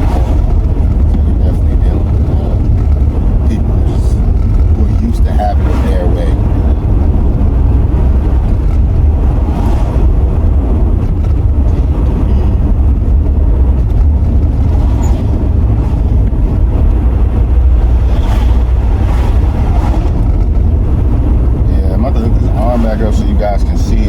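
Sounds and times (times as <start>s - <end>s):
car engine running: 0.0s - 24.0s
road and wind noise: 0.0s - 24.0s.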